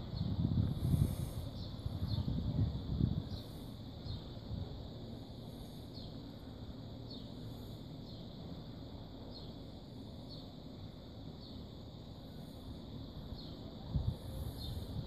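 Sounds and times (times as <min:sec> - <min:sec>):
low outdoor rumble: 0:00.0 - 0:15.0
small bird chirping: 0:00.1 - 0:15.0.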